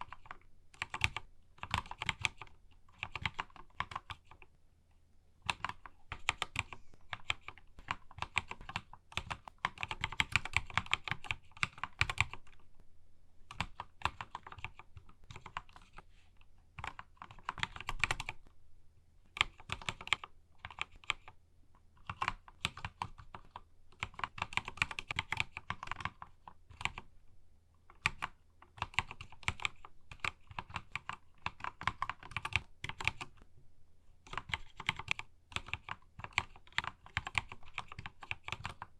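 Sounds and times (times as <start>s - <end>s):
mechanical keyboard typing: 0.0s - 4.5s, 5.4s - 12.6s, 13.4s - 16.0s, 16.8s - 18.4s, 19.3s - 21.4s, 22.0s - 27.1s, 27.9s - 33.4s, 34.2s - 38.9s.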